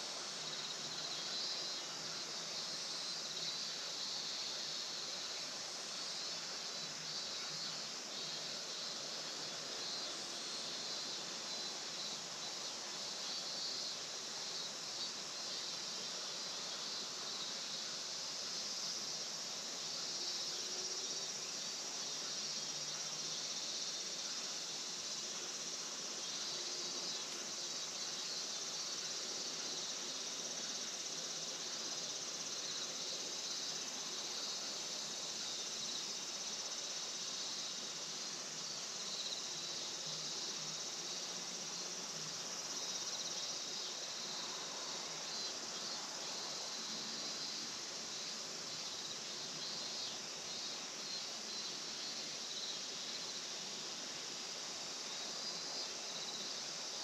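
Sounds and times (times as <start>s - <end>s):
faint outdoor hiss: 0.0s - 57.0s
insects chorus shrilling: 0.0s - 57.0s.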